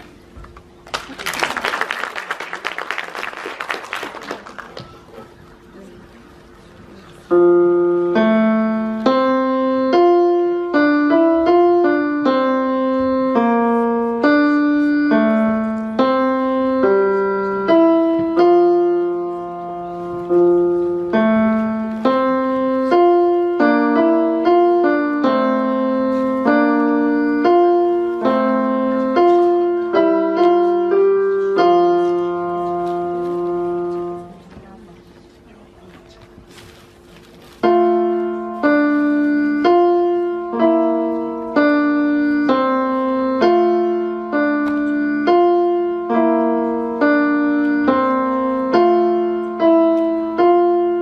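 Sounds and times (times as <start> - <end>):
solo piano melody: 7.2 - 34.6, 37.5 - 51.0.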